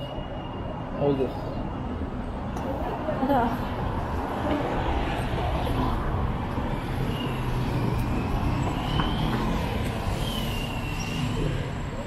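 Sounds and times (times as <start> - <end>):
city traffic on wet streets: 0.0 - 12.0.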